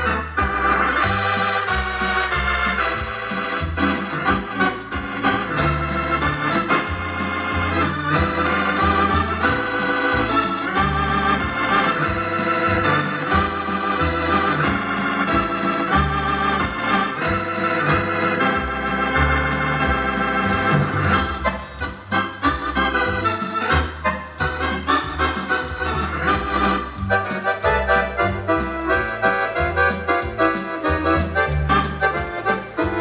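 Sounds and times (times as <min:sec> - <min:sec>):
electronic organ chords and bass: 0:00.0 - 0:33.0
steady percussive beat: 0:00.0 - 0:33.0.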